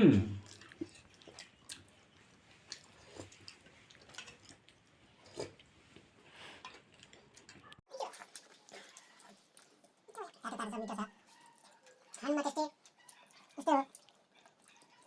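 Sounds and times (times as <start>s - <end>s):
faint chewing and mouth smacks: 0.4s - 15.0s.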